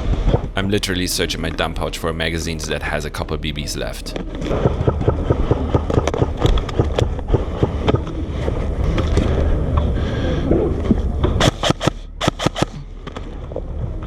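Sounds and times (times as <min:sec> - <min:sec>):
low handling rumble: 0:00.0 - 0:11.4.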